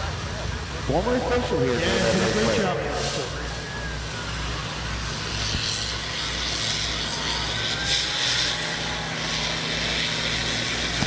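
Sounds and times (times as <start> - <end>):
car engines running: 0.0 - 11.0.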